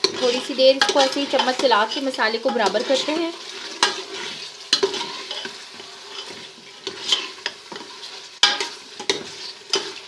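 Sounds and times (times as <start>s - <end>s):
low sizzle of cooking: 0.0s - 10.0s
spoon scraping a pot: 0.0s - 10.0s.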